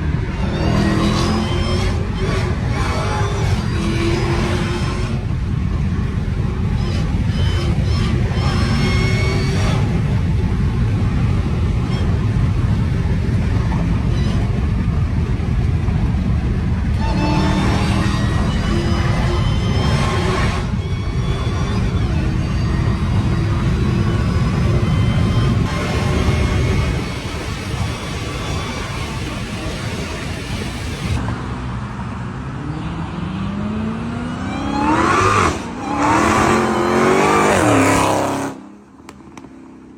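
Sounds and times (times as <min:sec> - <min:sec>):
car engine deep rumble: 0:00.0 - 0:39.9
supercharger whine: 0:00.0 - 0:39.9.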